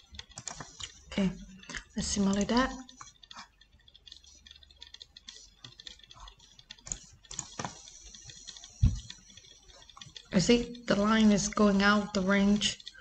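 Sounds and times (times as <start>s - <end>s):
keyboard and mouse clicking: 0.0s - 13.0s.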